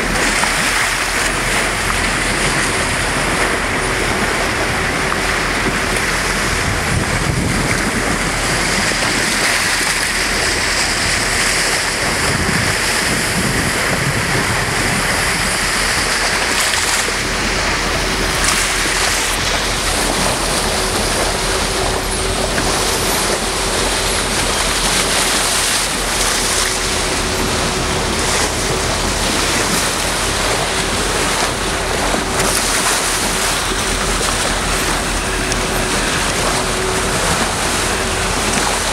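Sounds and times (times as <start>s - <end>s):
thin steady hum: 0.0s - 38.9s
water rushing along boat bow: 0.0s - 38.9s
wind on microphone: 0.0s - 38.9s.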